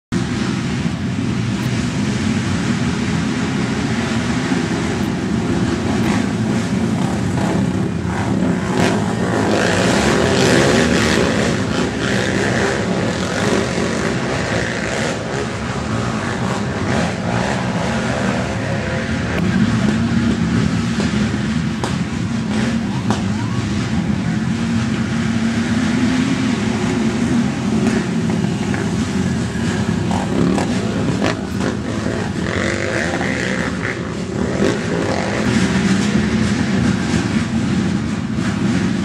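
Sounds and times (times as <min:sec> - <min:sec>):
quad engines passing: 0:00.2 - 0:39.0.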